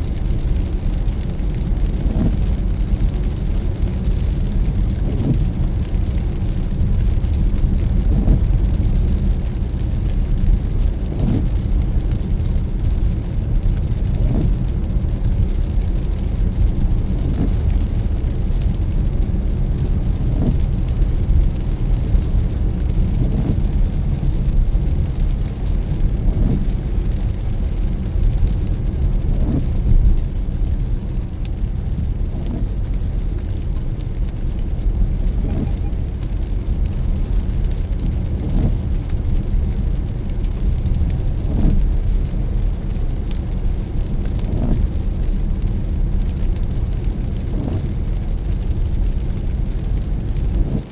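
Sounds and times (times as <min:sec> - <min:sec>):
car driving on wet road: 0:00.0 - 0:50.9
windshield wipers sweeping: 0:01.1 - 0:12.6, 0:14.0 - 0:19.0, 0:19.8 - 0:42.1, 0:43.1 - 0:45.6, 0:46.3 - 0:50.9.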